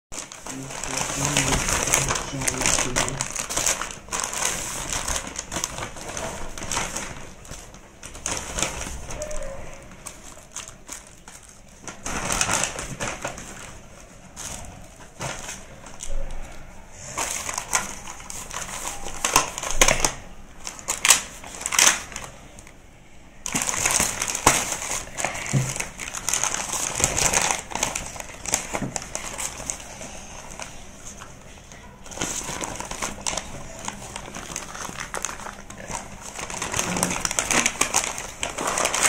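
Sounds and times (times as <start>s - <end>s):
cardboard rustling and scraping: 0.2s - 16.1s, 23.5s - 39.0s.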